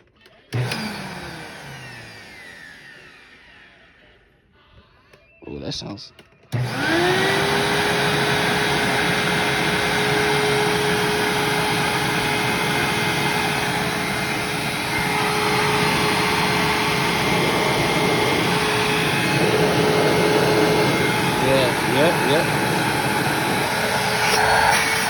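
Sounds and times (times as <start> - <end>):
vacuum cleaner motor whining: 0.5 - 4.3, 6.5 - 25.0.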